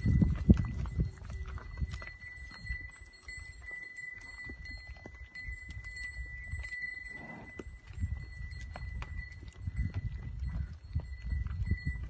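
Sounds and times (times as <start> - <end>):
cattle hooves on dry ground: 0.0 - 12.0.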